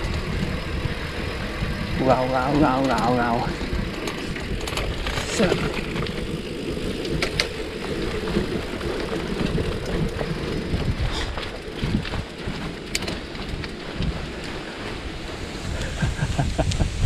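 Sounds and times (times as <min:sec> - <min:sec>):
bicycle tyre rumble on road: 0:00.0 - 0:17.0
wind buffeting microphone: 0:00.0 - 0:17.0.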